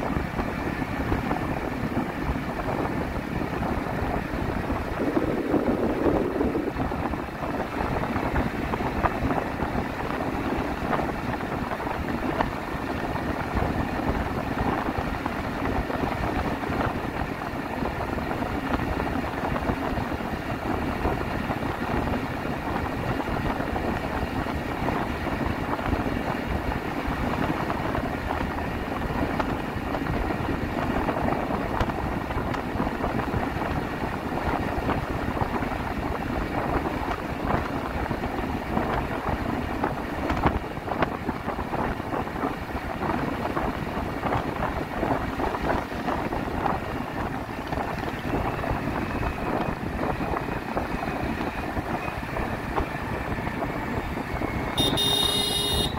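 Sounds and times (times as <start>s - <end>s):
wind buffeting microphone: 0.0s - 55.2s
vehicle engine and tyres on road: 0.0s - 55.9s.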